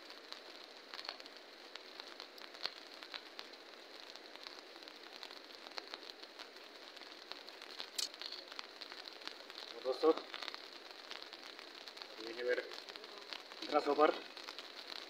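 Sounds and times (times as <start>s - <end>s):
rain hiss: 0.0s - 15.0s
raindrops tapping: 0.0s - 15.0s.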